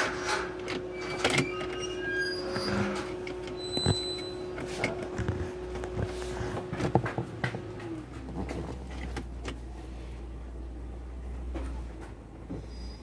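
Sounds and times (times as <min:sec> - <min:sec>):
steady hum: 0:02.4 - 0:13.0.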